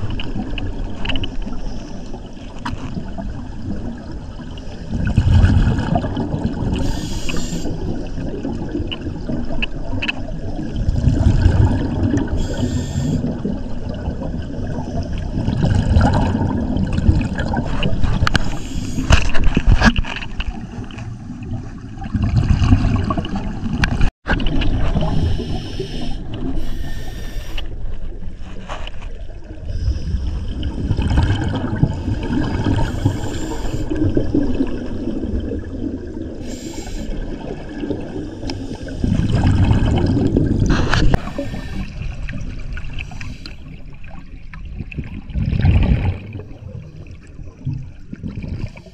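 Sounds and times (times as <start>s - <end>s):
underwater regulator bubbles: 0.0s - 27.9s, 29.4s - 48.9s
underwater water wash: 0.0s - 48.9s.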